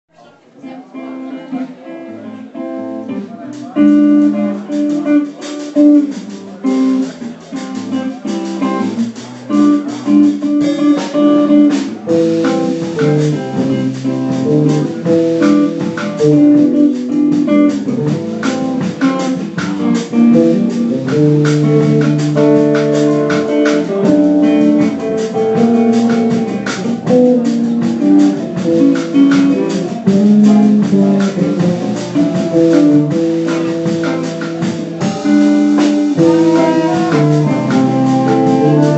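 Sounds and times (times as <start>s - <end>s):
jazz guitar playing slow tune: 0.6s - 38.9s.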